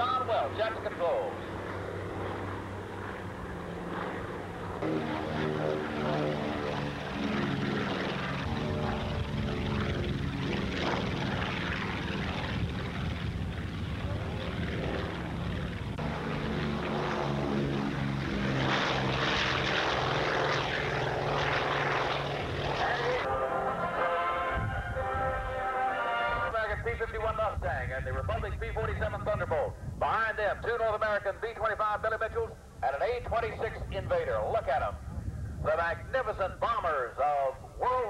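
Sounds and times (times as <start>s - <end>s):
propeller plane engines droning: 0.0s - 38.0s.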